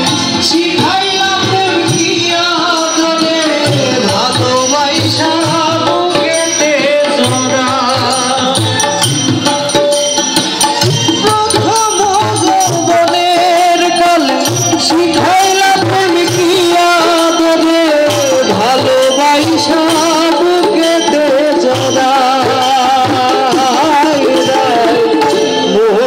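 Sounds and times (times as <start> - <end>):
drums and percussion beat: 0.0 - 26.0
live band playing through pa: 0.0 - 26.0.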